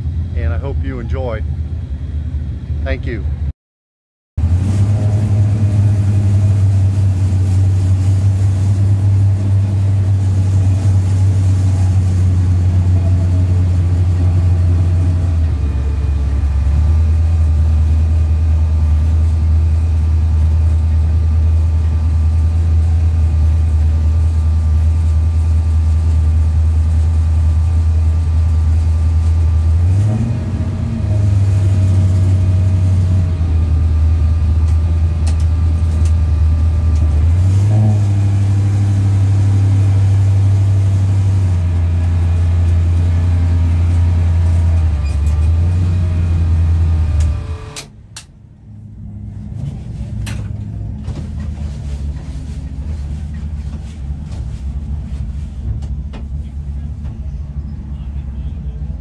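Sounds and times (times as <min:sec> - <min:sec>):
car engine idling: 0:04.4 - 0:59.0.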